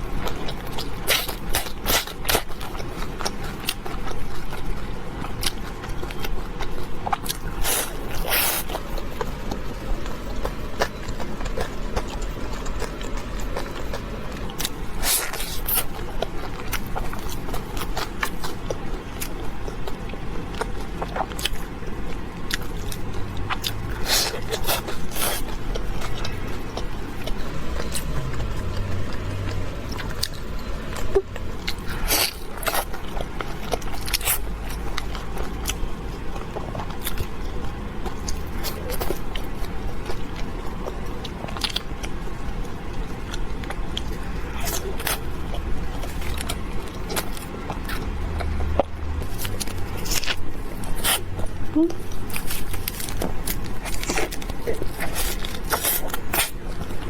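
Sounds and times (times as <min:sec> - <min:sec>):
chewing with crunchy bites: 0:00.0 - 0:57.0.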